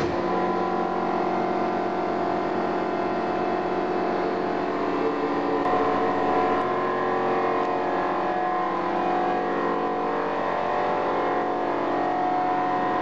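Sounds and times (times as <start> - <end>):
punch press machine hum: 0.0 - 13.0.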